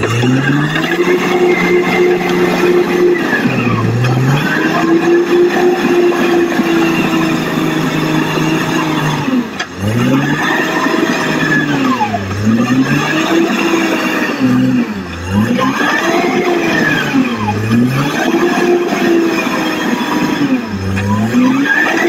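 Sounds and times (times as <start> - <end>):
bulldozer diesel engine revving: 0.0 - 22.0.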